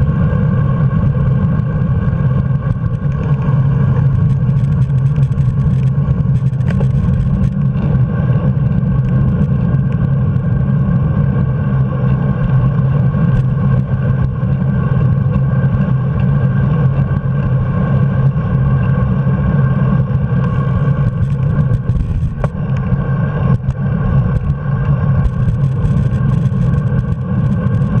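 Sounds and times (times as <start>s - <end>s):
road vibration rumble: 0.0s - 28.0s
wind: 0.0s - 28.0s.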